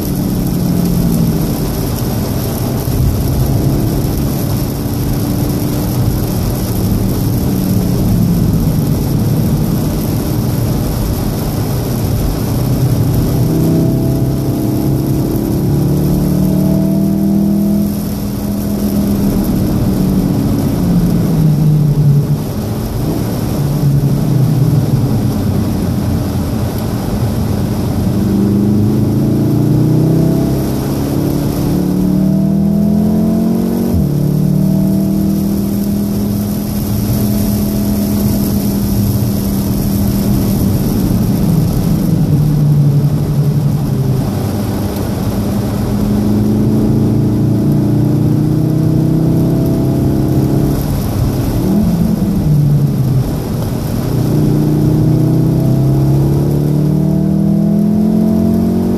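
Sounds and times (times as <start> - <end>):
car engine accelerating: 0.0 - 58.9
rain and wet road noise: 0.0 - 58.9.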